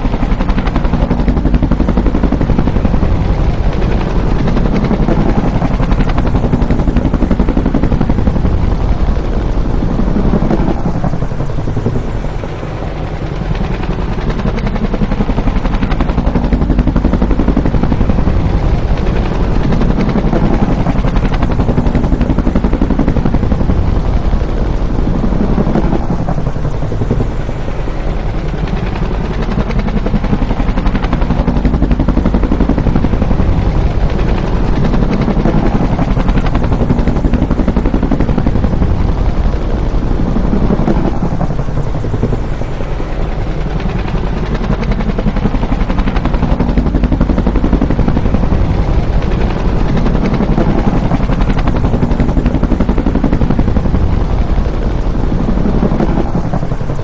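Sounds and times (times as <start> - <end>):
helicopter rotor chopping: 0.0 - 57.0.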